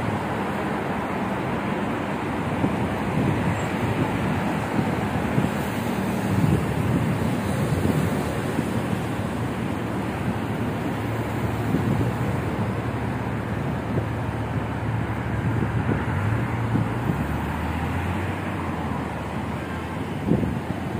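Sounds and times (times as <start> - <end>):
cars driving past: 0.0 - 20.9
low engine hum: 0.0 - 20.9
wind buffeting microphone: 0.0 - 20.9.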